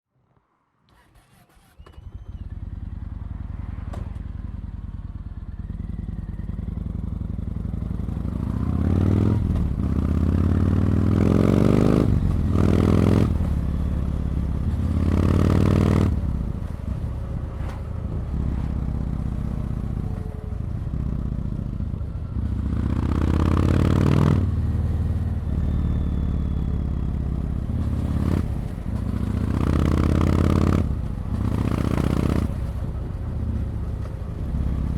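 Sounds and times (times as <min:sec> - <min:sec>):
motorcycle engine revving: 0:01.2 - 0:34.9.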